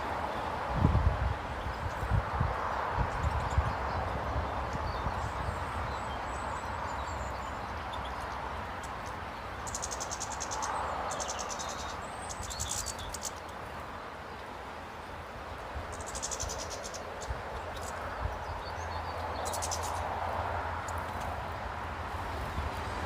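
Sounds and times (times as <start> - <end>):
outdoor background hiss and rumble: 0.0 - 23.0
small birds trilling: 0.2 - 21.7.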